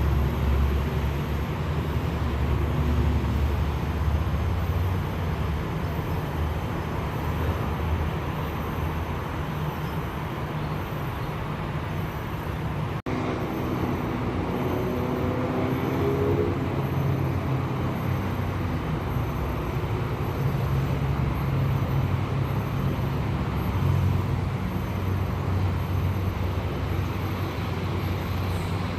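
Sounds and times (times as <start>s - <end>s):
road rumble and hiss: 0.0s - 28.9s
vehicles passing: 0.0s - 28.9s.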